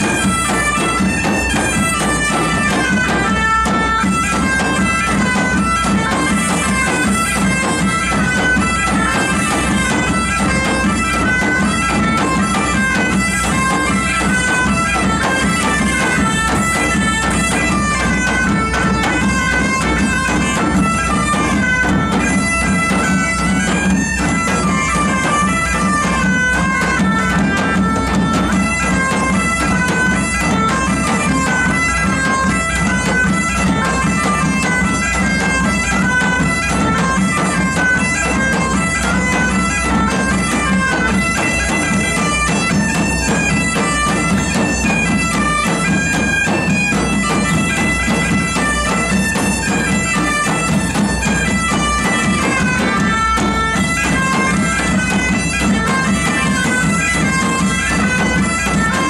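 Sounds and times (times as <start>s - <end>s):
bagpipes with drone: 0.0s - 59.0s
rope-tensioned drum beating: 0.0s - 59.0s
second wind instrument: 0.0s - 59.0s.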